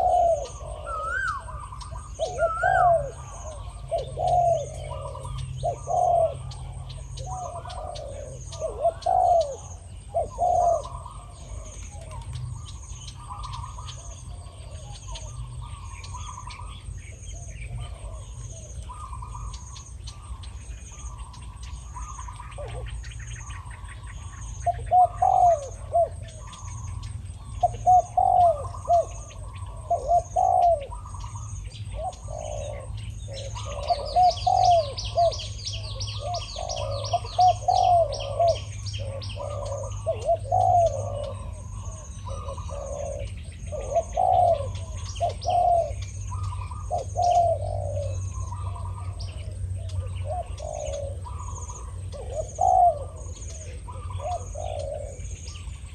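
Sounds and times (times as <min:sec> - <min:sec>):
doves cooing: 0:00.0 - 0:55.9
small birds chirping: 0:00.0 - 0:55.9.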